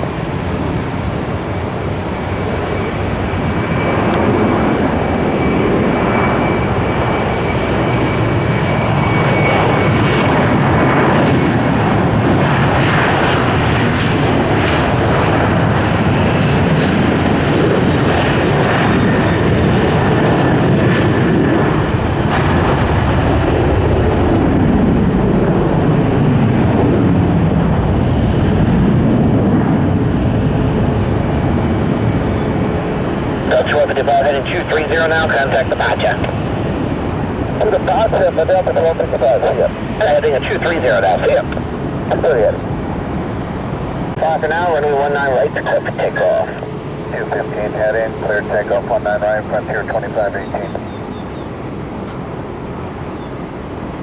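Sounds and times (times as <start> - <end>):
high engine whine: 0.0 - 54.0
jet engines roaring: 0.0 - 54.0.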